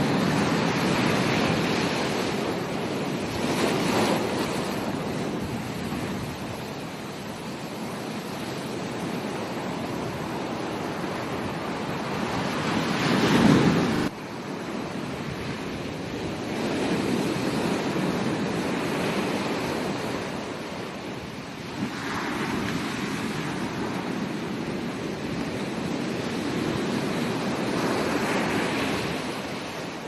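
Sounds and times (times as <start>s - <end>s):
ocean surf washing onto beach: 0.0s - 30.0s.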